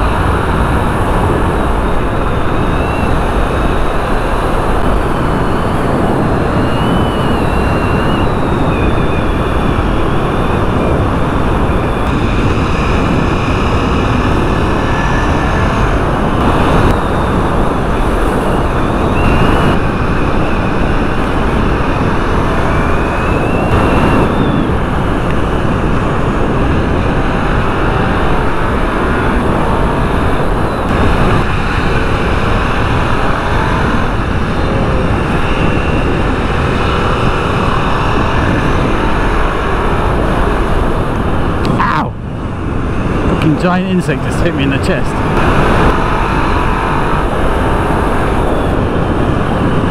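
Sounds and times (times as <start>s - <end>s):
heavy wind rush on microphone: 0.0s - 49.9s.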